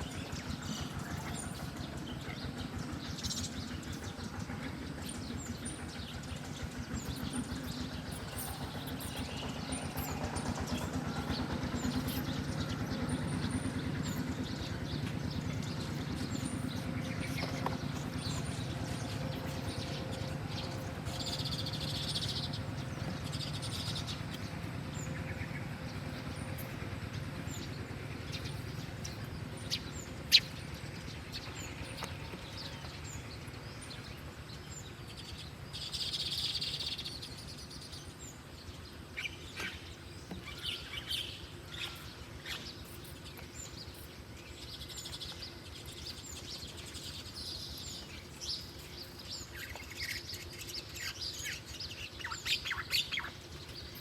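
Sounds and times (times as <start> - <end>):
birds chirping: 0.0 - 54.0
low background hum: 0.0 - 54.0.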